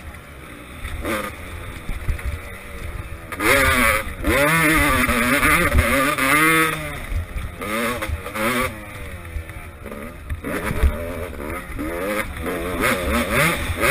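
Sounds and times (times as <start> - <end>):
motorbike engine revving: 0.0 - 13.9.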